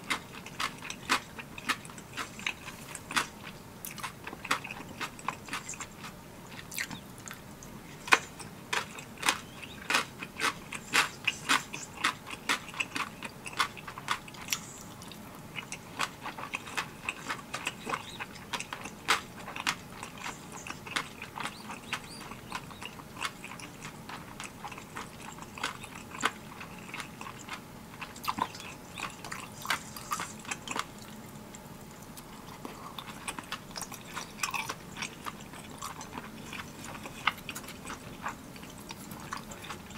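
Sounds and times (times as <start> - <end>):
chewing with wet mouth clicks: 0.0 - 39.9.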